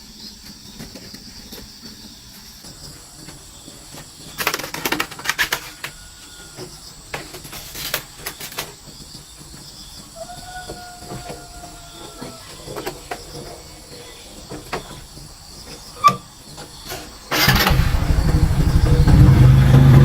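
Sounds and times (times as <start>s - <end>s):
crackling and rustling: 0.0s - 20.0s
insects droning: 0.0s - 20.0s.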